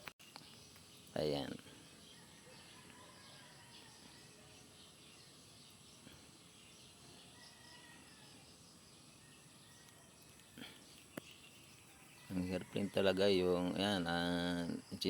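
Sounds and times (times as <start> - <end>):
faint bird chirps: 0.2 - 15.0.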